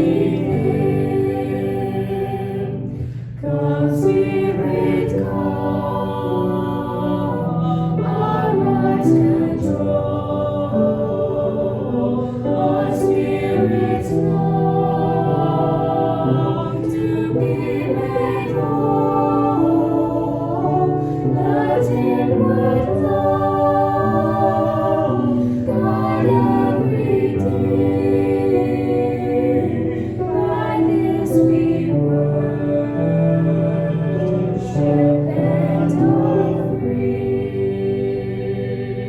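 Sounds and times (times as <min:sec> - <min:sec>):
choir singing slow song: 0:00.0 - 0:39.0.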